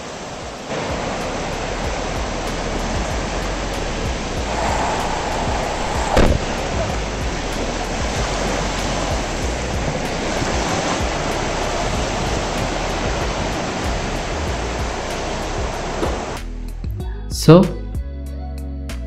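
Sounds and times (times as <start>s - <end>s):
surf washing over beach: 0.0s - 16.4s.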